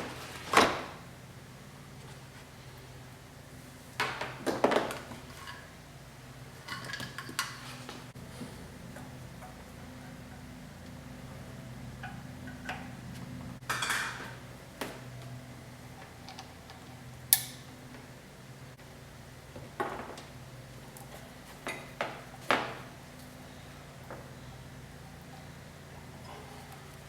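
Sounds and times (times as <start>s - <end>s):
steady low hum: 5.1s - 27.0s.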